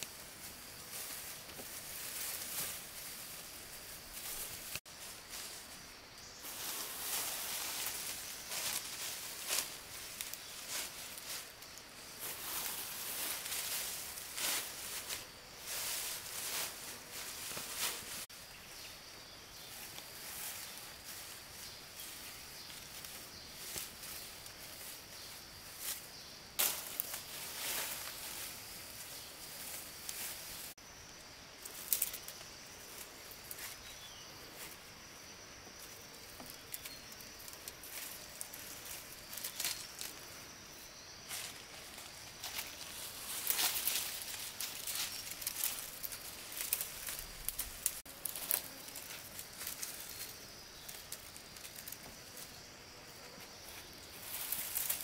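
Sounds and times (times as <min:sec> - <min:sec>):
rustles and crackles: 0:00.0 - 0:18.5, 0:19.5 - 0:55.0
high hiss: 0:00.0 - 0:55.0.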